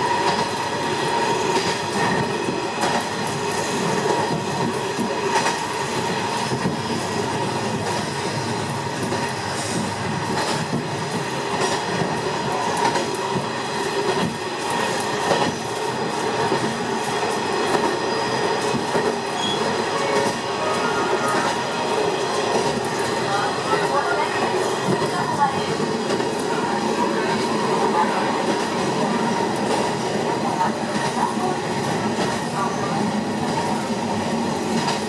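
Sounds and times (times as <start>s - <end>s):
train rolling on rails: 0.0s - 35.0s.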